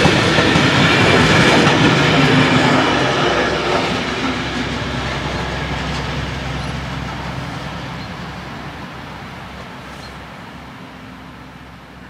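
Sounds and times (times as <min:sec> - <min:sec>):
locomotive engine rumble: 0:00.0 - 0:12.0
train rolling noise: 0:00.0 - 0:12.0.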